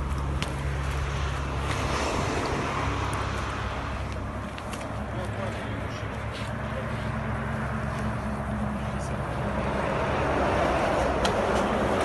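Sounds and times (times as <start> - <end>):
tyre and road noise: 0.0 - 12.0
vehicle engine humming: 0.0 - 12.0.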